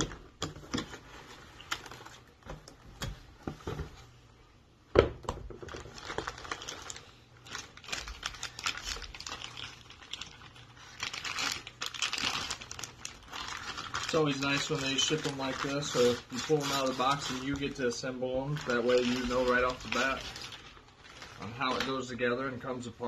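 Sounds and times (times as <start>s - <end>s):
plastic wrapping crinkling: 0.0s - 4.1s, 5.4s - 23.0s.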